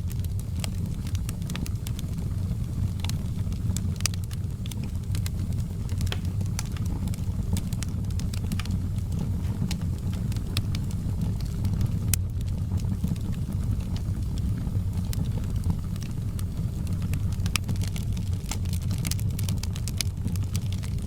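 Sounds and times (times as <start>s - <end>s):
low rumble of burning fire: 0.0s - 21.0s
wood fire crackling and popping: 0.0s - 21.0s.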